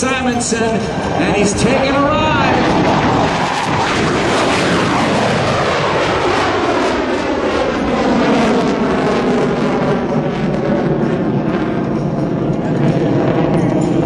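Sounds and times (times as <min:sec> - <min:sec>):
jet roar taking off: 0:00.0 - 0:14.0.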